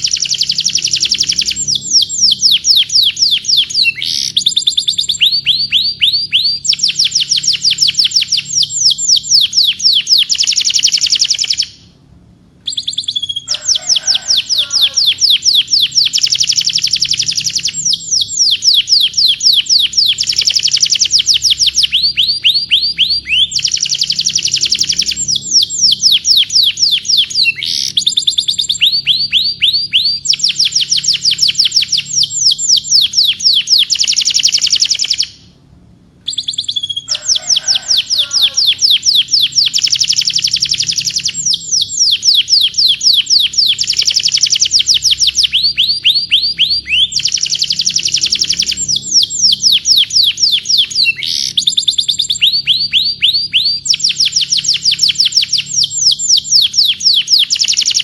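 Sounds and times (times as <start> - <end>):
canary singing rapid trills: 0.0 - 11.9, 12.6 - 35.5, 36.2 - 58.0.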